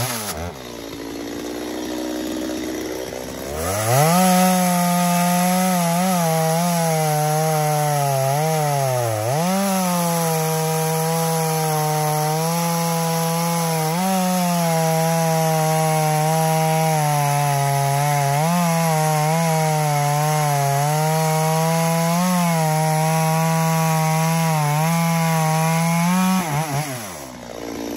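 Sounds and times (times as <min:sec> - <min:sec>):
chainsaw cutting log: 0:00.0 - 0:27.9.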